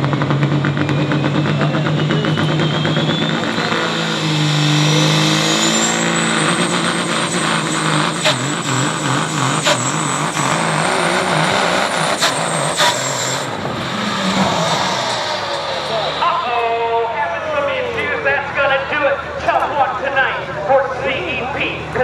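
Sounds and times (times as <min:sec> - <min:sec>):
turbocharger whistle: 0:00.0 - 0:18.9
diesel engine running hard: 0:00.0 - 0:22.0.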